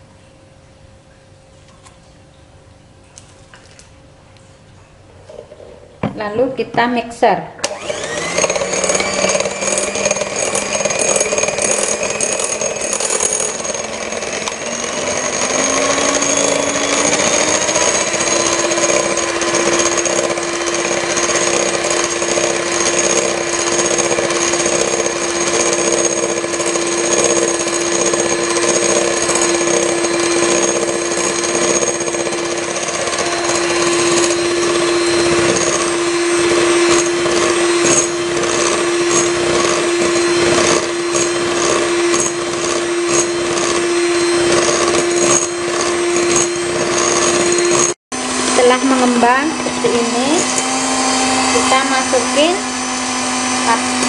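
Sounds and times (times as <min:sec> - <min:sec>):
electric hand mixer whining: 0:07.6 - 0:54.0
beaters whipping in glass bowl: 0:07.7 - 0:54.0.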